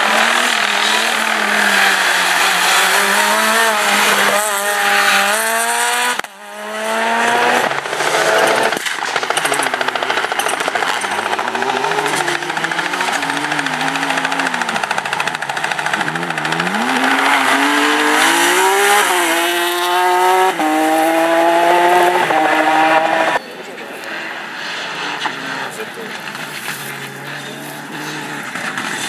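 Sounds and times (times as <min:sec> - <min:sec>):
rough rattling engine: 0:00.0 - 0:23.4, 0:24.2 - 0:29.0
rally car engines revving: 0:00.0 - 0:29.0.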